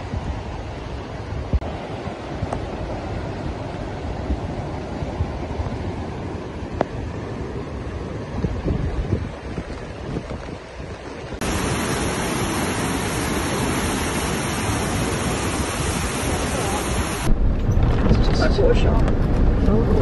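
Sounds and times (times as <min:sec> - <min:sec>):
floodwater rushing through creek: 0:00.0 - 0:17.3.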